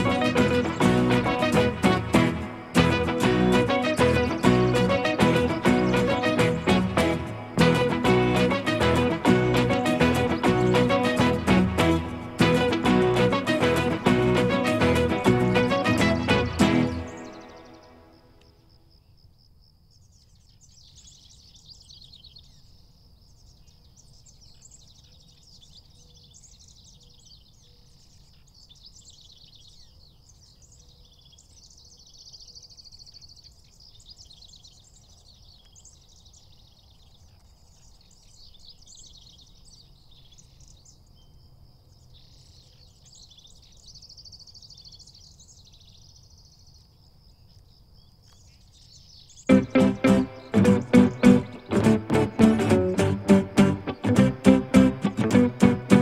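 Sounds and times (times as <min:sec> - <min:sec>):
birds chirping and trilling: 0:00.0 - 0:18.7, 0:19.9 - 0:56.0.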